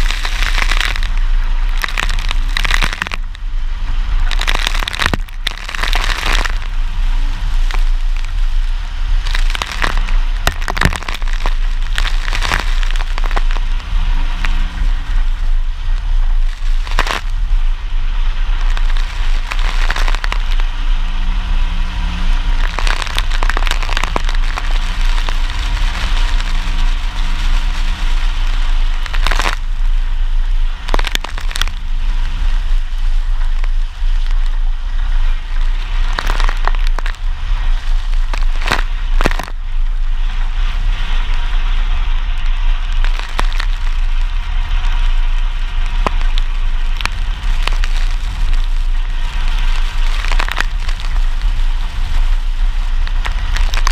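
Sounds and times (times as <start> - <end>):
truck engine rumble: 0.0 - 53.9.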